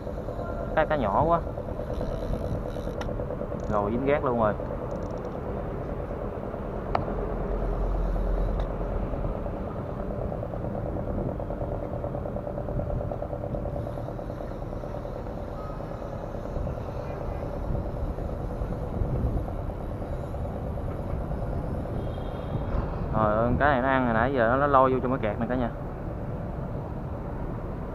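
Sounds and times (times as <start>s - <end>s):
deep rumble: 0.0s - 27.9s
motor engine running: 0.0s - 27.9s.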